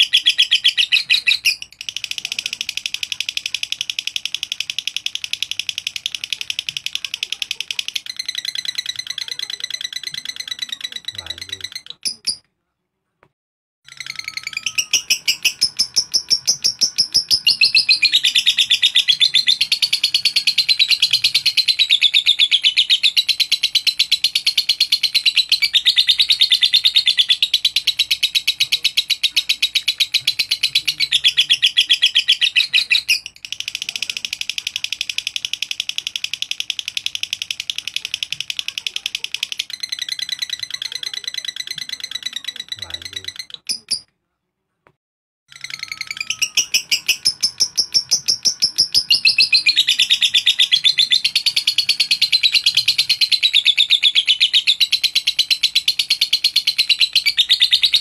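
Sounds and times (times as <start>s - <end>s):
lovebird chattering: 0.0s - 12.4s, 13.9s - 44.1s, 45.5s - 58.0s.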